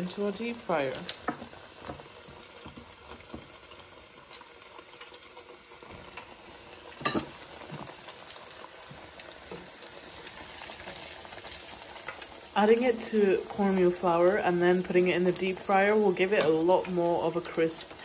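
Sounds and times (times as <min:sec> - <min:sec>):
oil sizzling in deep fryer: 0:00.0 - 0:18.0.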